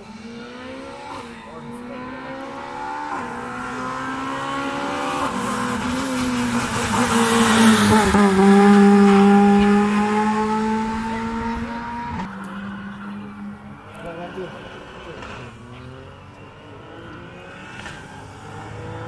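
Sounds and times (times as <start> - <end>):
race car engine passing at full throttle: 0.0 - 19.0.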